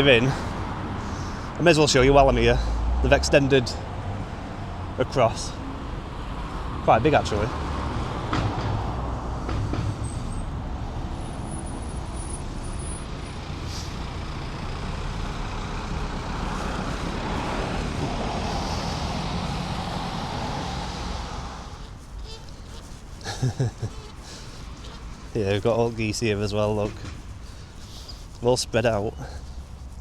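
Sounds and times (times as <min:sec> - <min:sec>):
heavy vehicle passing: 0:00.0 - 0:30.0
road traffic noise: 0:00.0 - 0:30.0.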